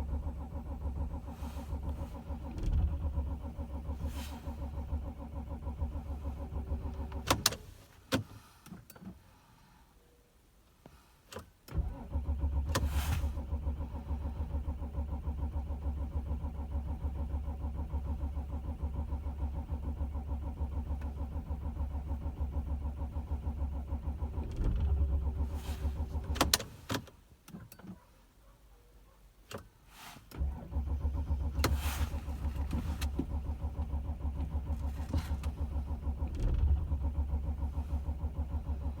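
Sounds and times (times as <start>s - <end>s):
starter cranking diesel engine: 0.0s - 7.8s, 11.7s - 27.1s, 30.3s - 39.0s.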